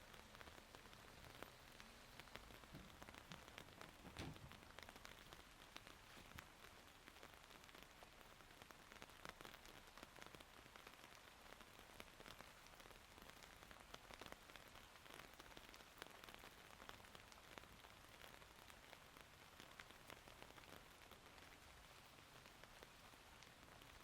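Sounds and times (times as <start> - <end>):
faint rain with drops ticking: 0.0 - 24.0.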